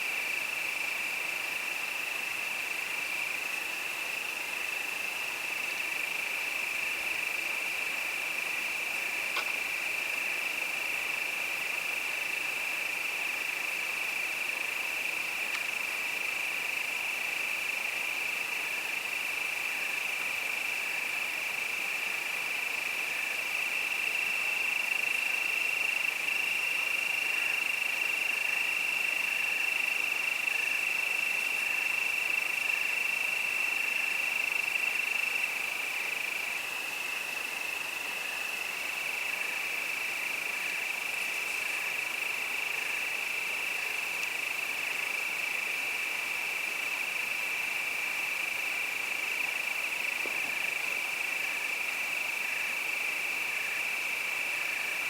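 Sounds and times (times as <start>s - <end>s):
soft cricket chirp: 0.0s - 55.0s.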